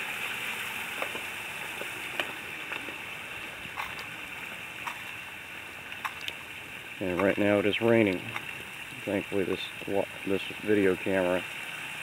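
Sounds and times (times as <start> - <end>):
running water hiss: 0.0 - 12.0
light drip ticks: 1.0 - 11.2.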